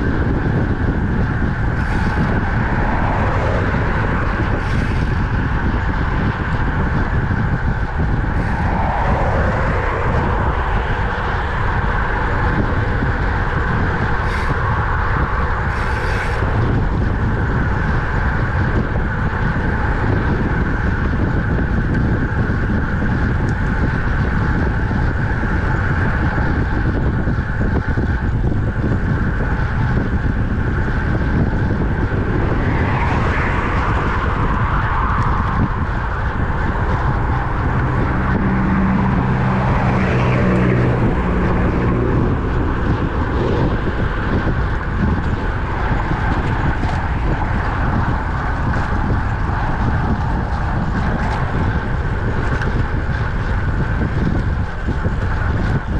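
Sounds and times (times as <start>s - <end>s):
motor vehicle passing: 0.0s - 22.5s, 29.8s - 55.9s
road noise: 0.0s - 55.9s
wind rushing over microphone: 0.0s - 55.9s.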